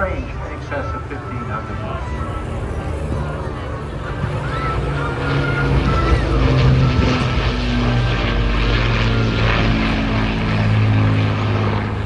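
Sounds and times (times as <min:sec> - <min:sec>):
propeller aircraft flying past: 0:00.2 - 0:12.0.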